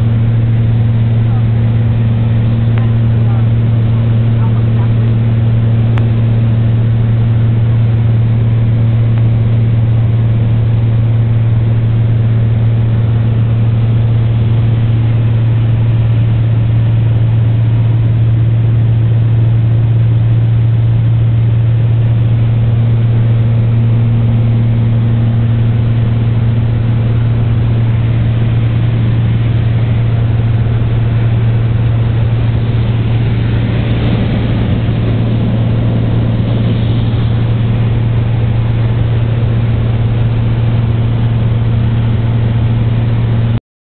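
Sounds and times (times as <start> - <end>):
airplane engine droning: 0.0 - 43.6.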